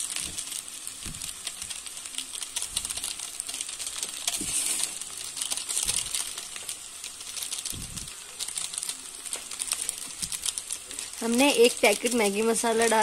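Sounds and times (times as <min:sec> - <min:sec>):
noodles sizzling: 0:00.0 - 0:13.0
plastic sachet crinkling: 0:00.0 - 0:13.0.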